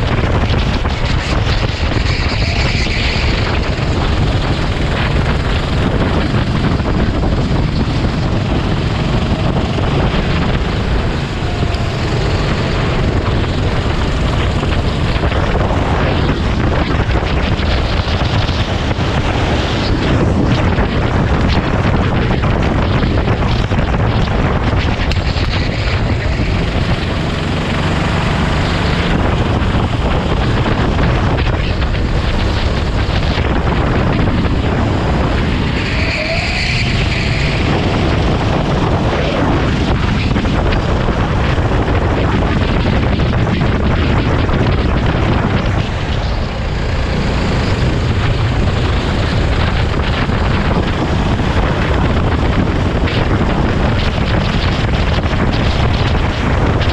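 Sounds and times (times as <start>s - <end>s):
kart engine running under load: 0.0s - 56.9s
wind noise on microphone: 0.0s - 56.9s.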